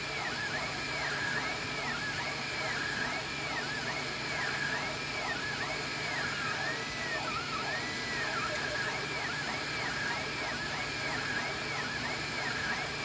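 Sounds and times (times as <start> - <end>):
three d printer stepper motors whining: 0.0 - 13.0.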